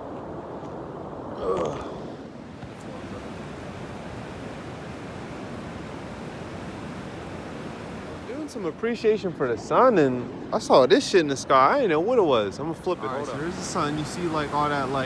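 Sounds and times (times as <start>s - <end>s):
steady rushing noise: 2.5s - 15.0s.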